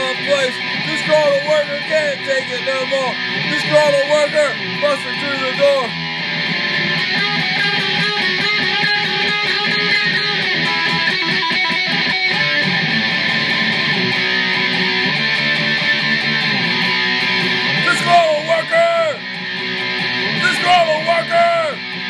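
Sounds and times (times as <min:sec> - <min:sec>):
electric guitar rock riff: 0:00.0 - 0:22.0.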